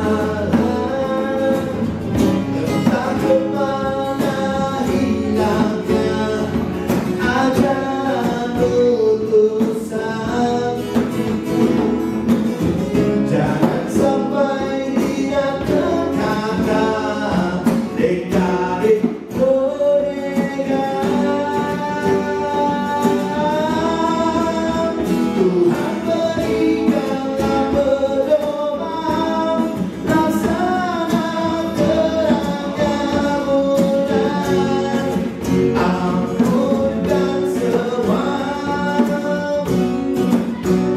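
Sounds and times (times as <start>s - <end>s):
djembe drum beat: 0.0s - 40.9s
man singing into a microphone: 0.0s - 40.9s
strummed acoustic guitar: 0.0s - 40.9s.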